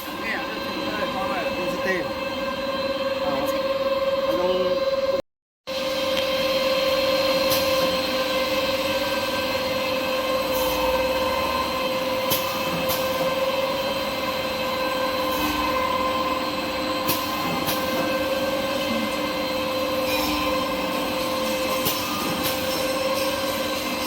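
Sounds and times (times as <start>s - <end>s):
cutting machine whine: 0.0s - 24.0s.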